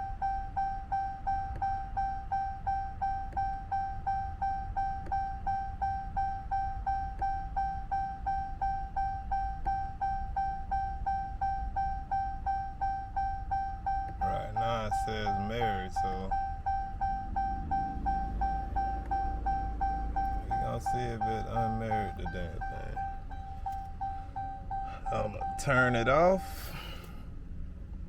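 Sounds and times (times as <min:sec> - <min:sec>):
car warning chime: 0:00.0 - 0:27.2.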